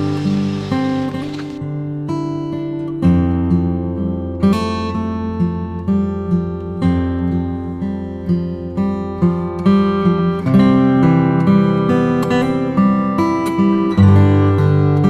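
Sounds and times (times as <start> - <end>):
acoustic guitar picking and strumming: 0.0 - 15.0.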